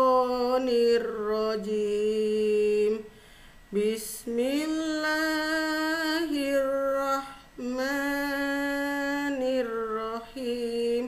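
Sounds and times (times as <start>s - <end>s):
woman chanting melodically: 0.0s - 11.0s.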